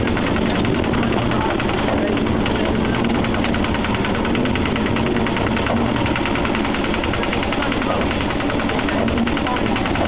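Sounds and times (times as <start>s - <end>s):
small diesel engine running: 0.0s - 10.0s.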